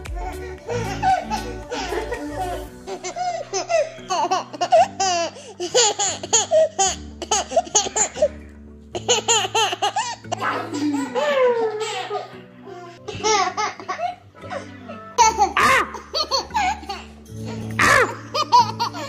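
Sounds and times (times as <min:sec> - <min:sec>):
baby laughing: 0:00.0 - 0:19.0
background music with low notes: 0:00.0 - 0:19.0.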